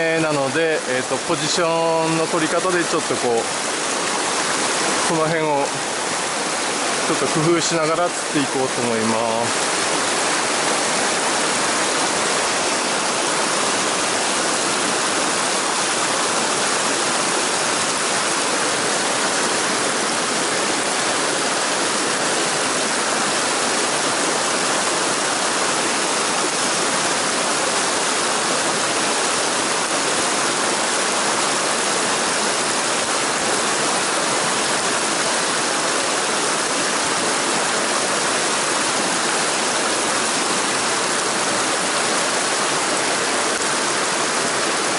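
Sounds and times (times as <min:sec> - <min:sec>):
stream rushing over rapids: 0:00.0 - 0:44.9.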